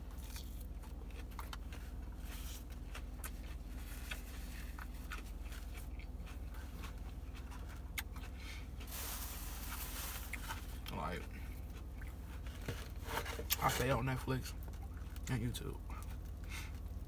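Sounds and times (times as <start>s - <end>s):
person chewing food: 0.0s - 13.6s, 14.6s - 17.0s
low steady hum: 0.0s - 17.0s.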